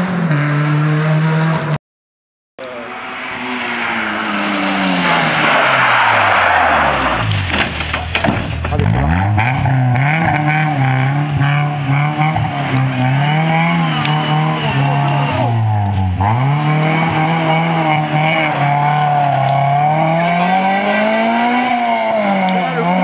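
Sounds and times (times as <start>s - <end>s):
car engine revving high: 2.6s - 8.0s, 8.7s - 23.0s.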